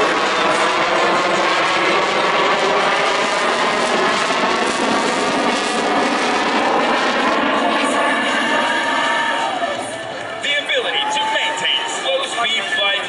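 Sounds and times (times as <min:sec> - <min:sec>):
jet fighter flying past: 0:00.0 - 0:13.0.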